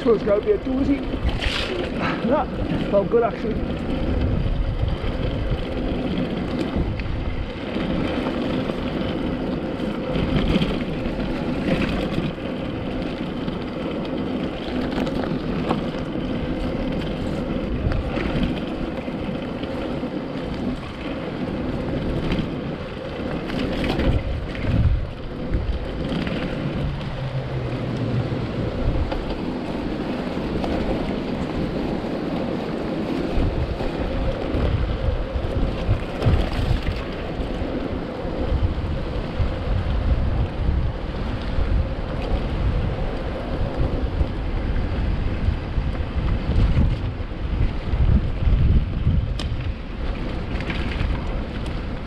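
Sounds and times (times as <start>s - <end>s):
bike knocking and rattling: 0.0s - 52.0s
bike tyres rumbling on dirt: 0.0s - 52.0s.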